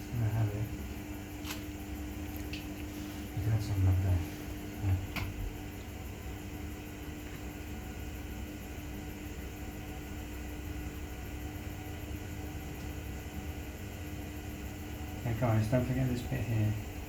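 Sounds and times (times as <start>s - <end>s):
faint constant tone: 0.0s - 17.0s
low mechanical hum: 0.0s - 17.0s.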